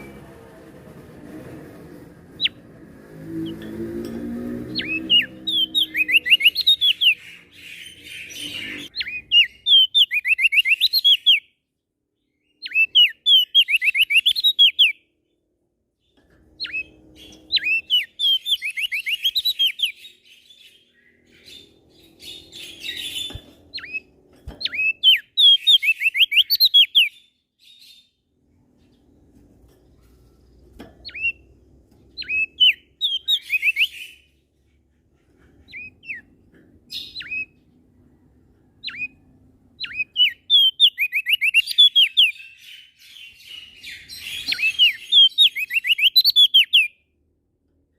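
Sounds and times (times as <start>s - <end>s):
songbird chirping: 0.0s - 47.9s.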